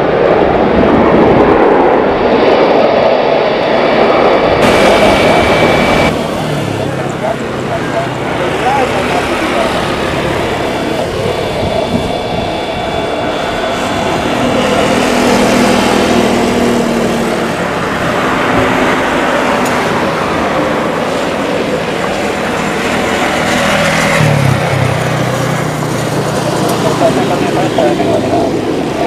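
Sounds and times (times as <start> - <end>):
jet engines rumbling with whine: 0.0 - 29.0.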